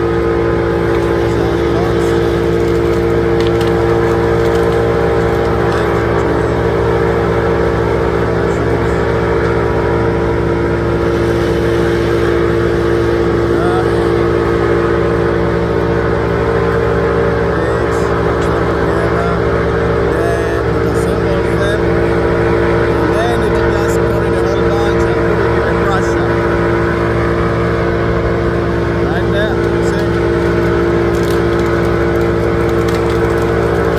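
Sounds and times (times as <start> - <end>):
heavy machinery engine drone: 0.0 - 33.9.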